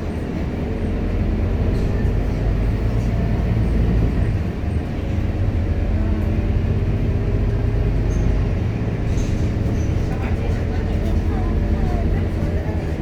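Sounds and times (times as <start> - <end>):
bus diesel engine running: 0.0 - 13.0
road and body rumble: 0.0 - 13.0.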